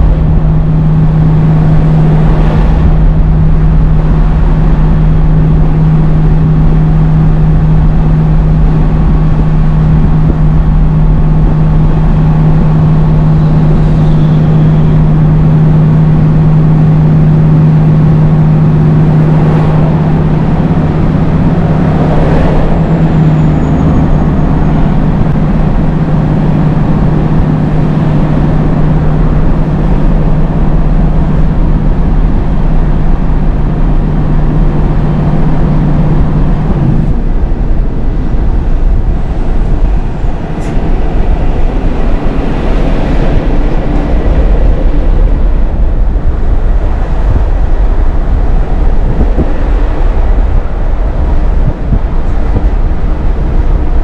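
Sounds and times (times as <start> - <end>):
passing traffic: 0.0 - 54.0
truck engine droning: 0.0 - 54.0.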